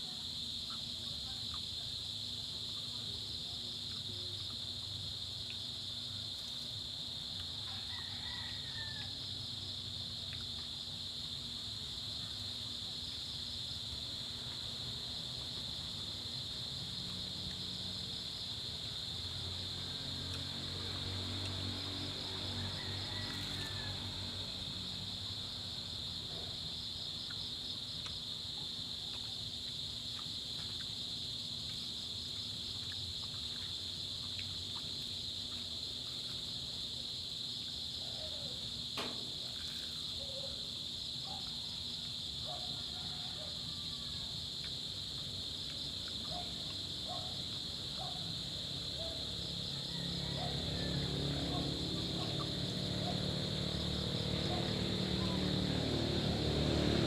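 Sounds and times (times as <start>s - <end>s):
crickets droning: 0.0s - 57.0s.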